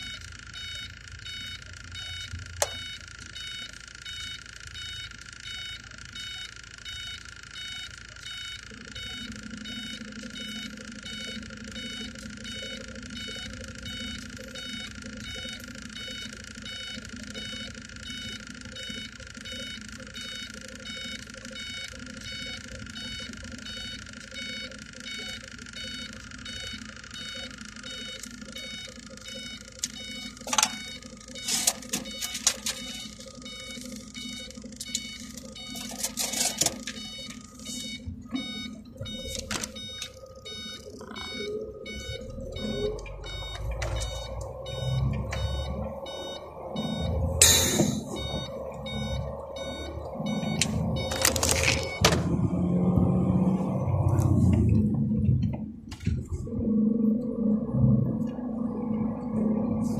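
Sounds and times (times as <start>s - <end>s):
truck engine idling hum: 0.0s - 59.9s.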